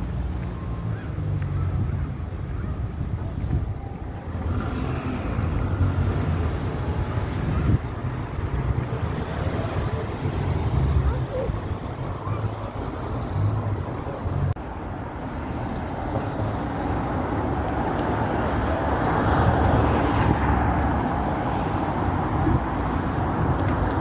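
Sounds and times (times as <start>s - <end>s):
passing cars traffic rush: 0.0s - 24.0s.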